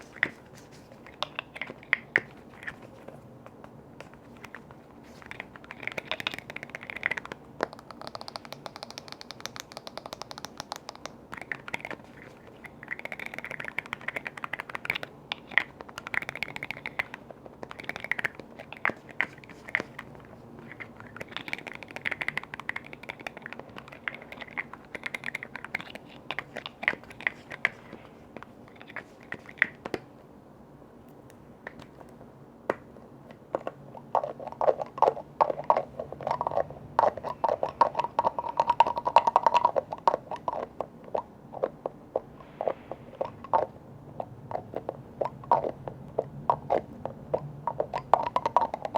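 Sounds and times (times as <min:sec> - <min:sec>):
tapping and scratching on containers: 0:00.0 - 0:30.1, 0:31.7 - 0:48.9.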